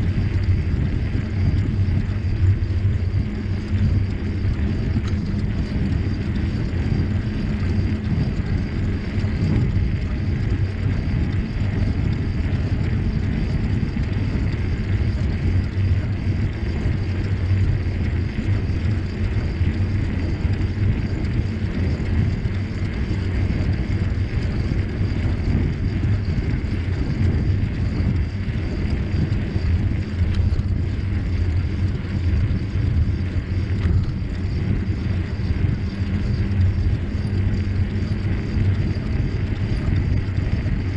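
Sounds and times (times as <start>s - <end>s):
bicycle rolling noise: 0.0s - 40.9s
wind buffeting microphone: 0.0s - 40.9s.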